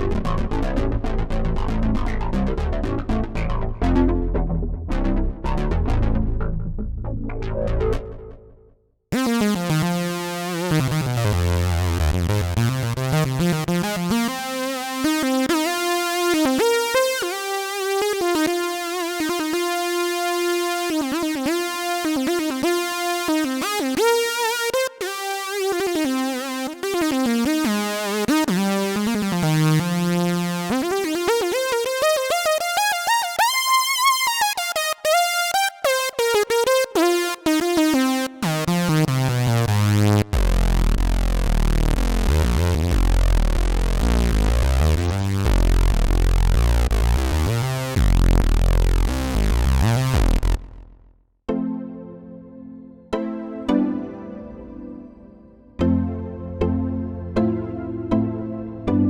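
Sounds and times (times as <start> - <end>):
synthesizer notes gliding in pitch: 0.0 - 50.9.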